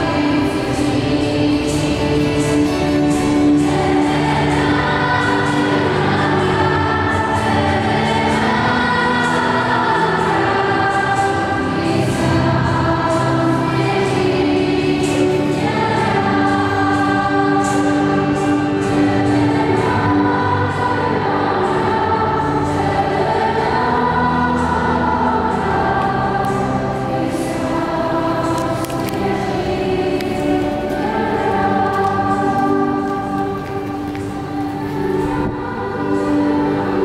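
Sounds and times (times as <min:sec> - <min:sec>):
choir singing sacred music: 0:00.0 - 0:37.0.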